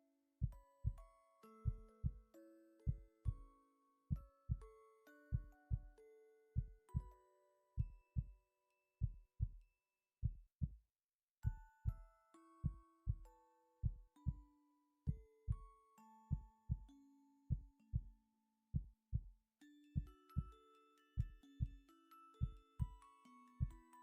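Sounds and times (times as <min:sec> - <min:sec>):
soft chiming background music: 0:00.0 - 0:09.9, 0:11.4 - 0:24.0.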